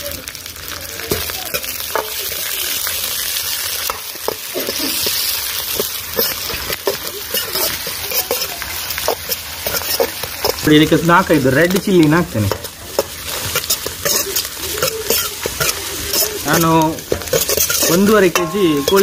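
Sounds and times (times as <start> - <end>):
food sizzling in hot oil: 0.0 - 19.0
ladle scraping metal wok: 3.7 - 19.0.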